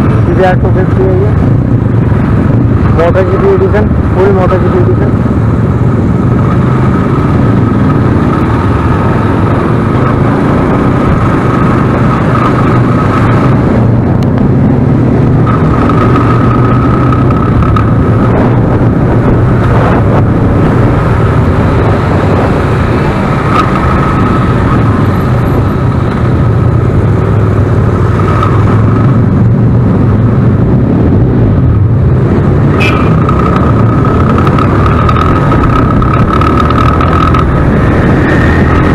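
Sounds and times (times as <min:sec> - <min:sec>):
motorcycle engines droning: 0:00.0 - 0:38.9.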